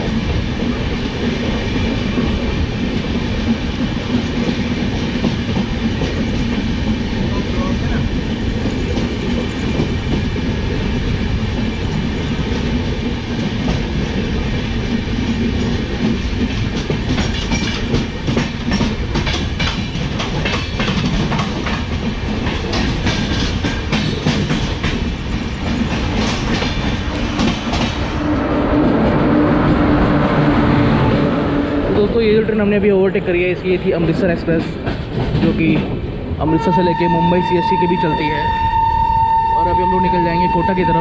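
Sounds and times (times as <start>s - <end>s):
train wheels rumbling over rails: 0.0s - 41.0s.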